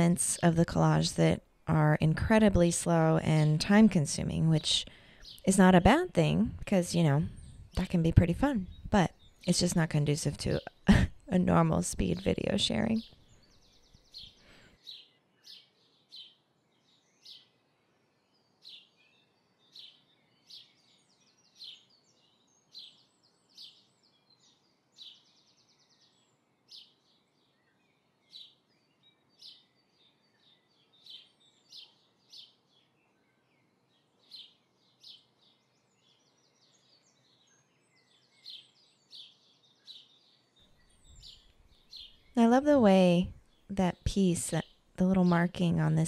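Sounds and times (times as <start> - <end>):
faint small birds chirping: 0.0 - 46.0.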